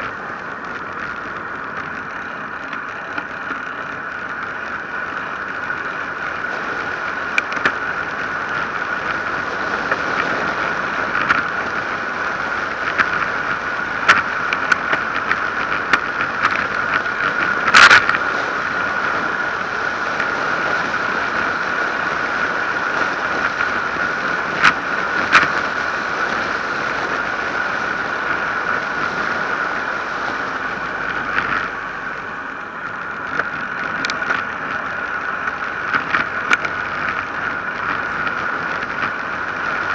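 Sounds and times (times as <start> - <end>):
steady high hum: 0.0 - 39.9
tyres on asphalt: 0.0 - 39.9.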